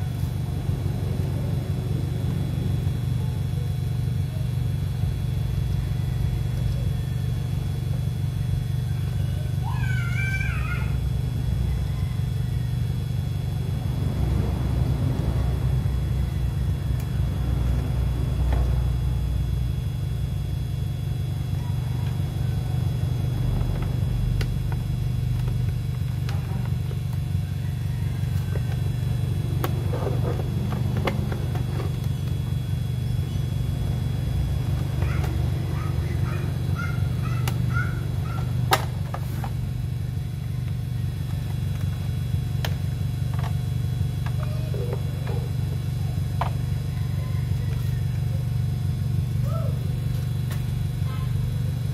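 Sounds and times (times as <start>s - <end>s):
low mechanical rumble: 0.0s - 51.9s.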